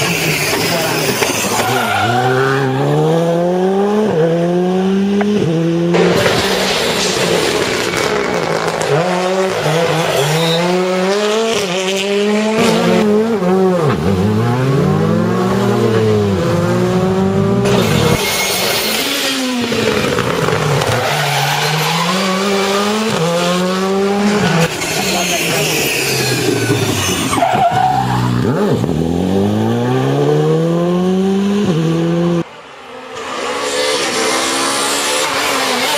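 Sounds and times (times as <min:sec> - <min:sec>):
rally car engines revving: 0:00.0 - 0:35.9.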